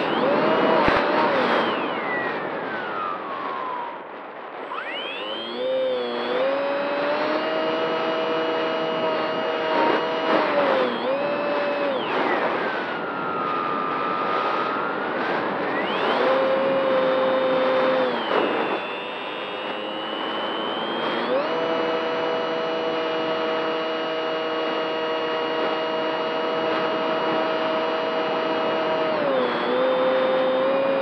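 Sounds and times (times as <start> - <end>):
model plane motor and propeller: 0.0 - 4.0, 4.6 - 31.0
wind noise: 0.0 - 31.0.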